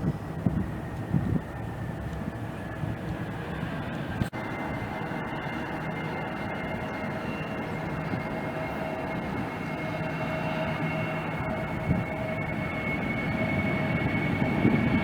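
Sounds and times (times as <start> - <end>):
jet engines rushing and whining: 0.0 - 15.0.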